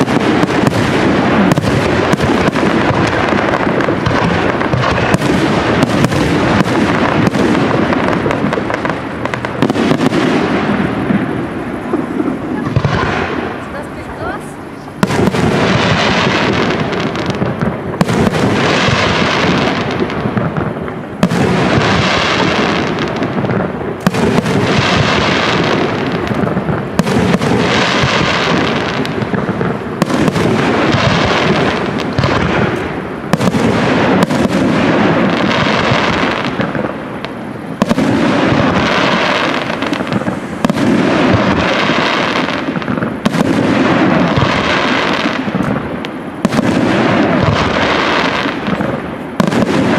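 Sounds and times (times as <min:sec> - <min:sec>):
firework crackling: 0:00.0 - 0:49.9
firework shells bursting: 0:00.0 - 0:49.9.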